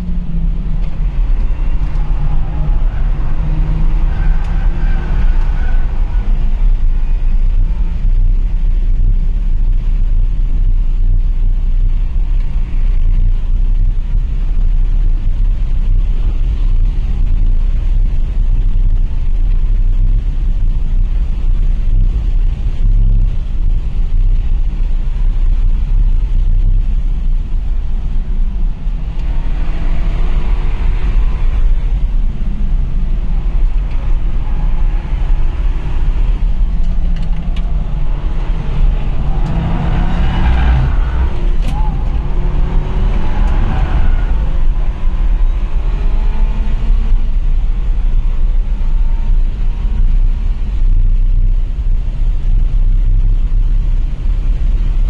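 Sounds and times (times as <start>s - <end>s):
car engine at speed: 0.0s - 55.0s
road and wind rumble: 0.0s - 55.0s.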